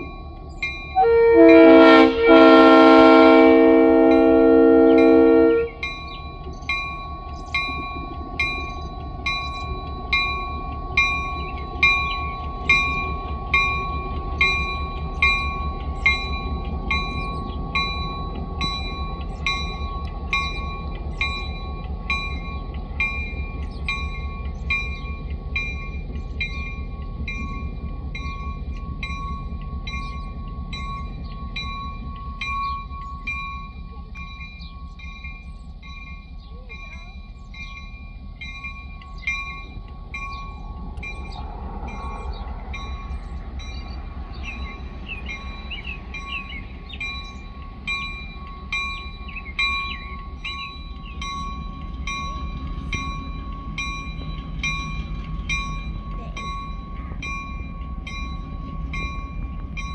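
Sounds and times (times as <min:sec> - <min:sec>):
diesel locomotive engine rumble: 0:00.0 - 0:59.9
railroad warning bell ringing: 0:00.0 - 0:59.9.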